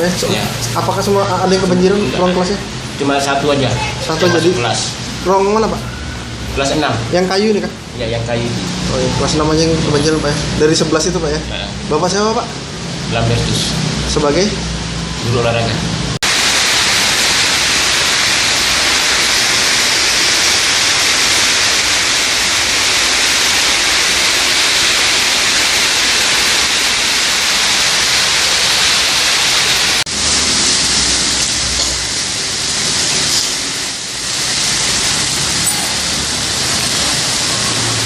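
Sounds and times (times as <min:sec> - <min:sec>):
rushing water hiss: 0:00.0 - 0:14.7, 0:15.3 - 0:38.0.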